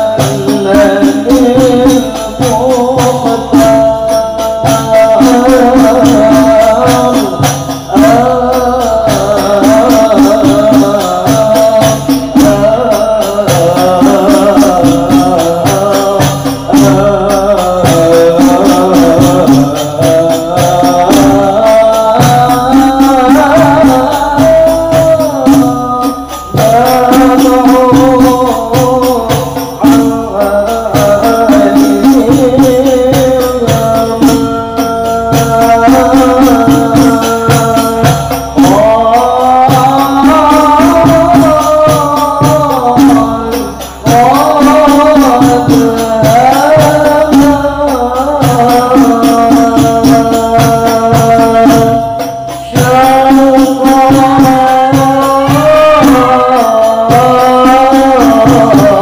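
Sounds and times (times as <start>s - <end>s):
frame drums beating: 0.0s - 59.0s
man singing devotional song: 0.0s - 59.0s.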